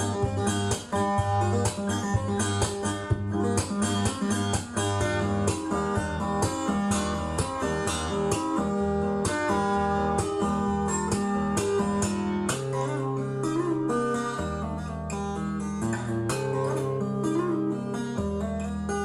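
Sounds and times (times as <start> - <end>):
guitar music from vinyl record: 0.0 - 19.0.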